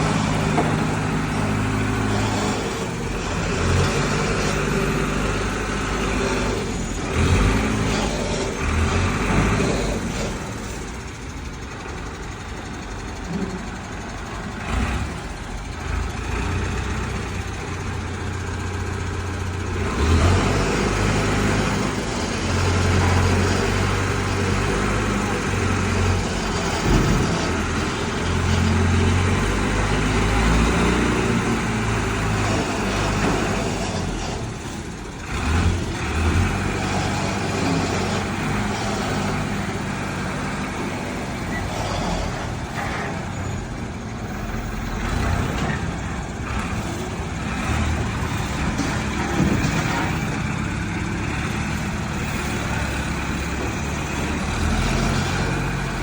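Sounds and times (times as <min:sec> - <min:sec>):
heavy vehicle engine humming: 0:00.0 - 0:56.0.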